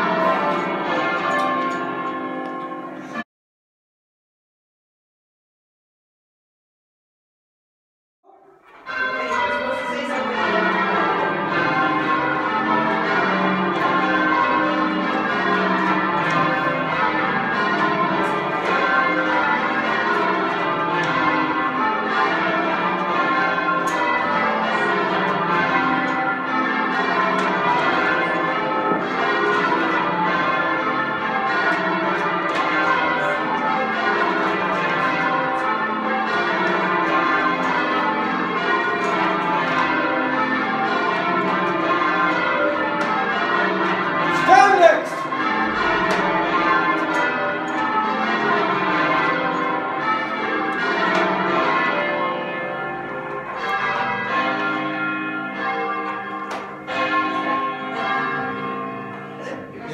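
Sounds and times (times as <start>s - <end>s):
church bells ringing in rounds: 0.0s - 3.2s, 8.3s - 59.9s.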